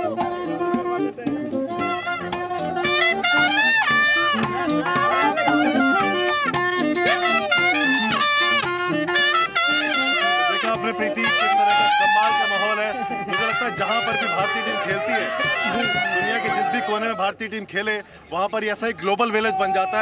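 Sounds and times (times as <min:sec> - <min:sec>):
marching brass band playing: 0:00.0 - 0:17.2.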